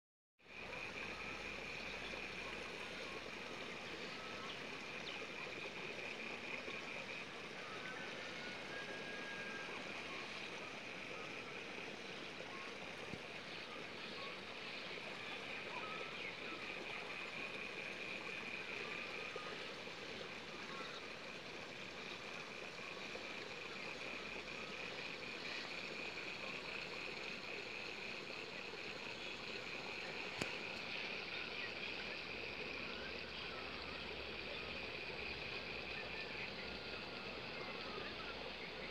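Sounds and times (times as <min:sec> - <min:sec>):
constant hiss: 0:00.4 - 0:38.9.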